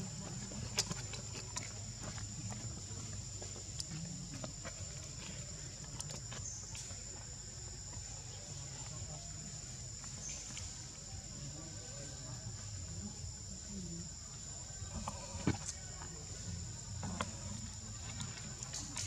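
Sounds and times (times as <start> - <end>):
insects droning: 0.0 - 19.0
low background hum: 0.0 - 19.0.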